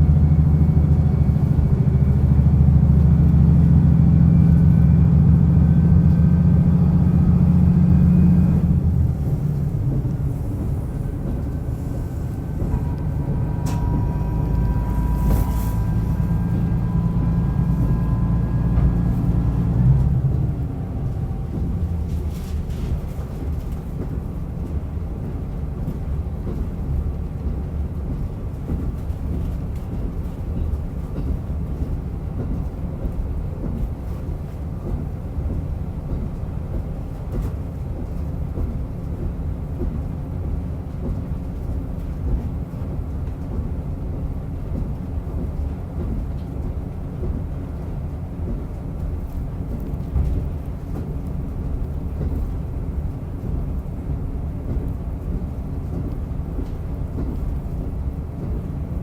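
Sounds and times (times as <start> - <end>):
diesel railcar engine: 0.0 - 59.0
wheels rumbling on rails: 0.0 - 59.0.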